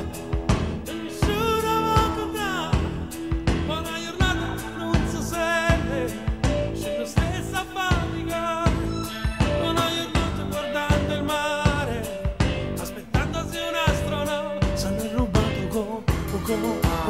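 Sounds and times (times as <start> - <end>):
person singing: 0.0 - 17.0
steady drum beat: 0.0 - 17.0.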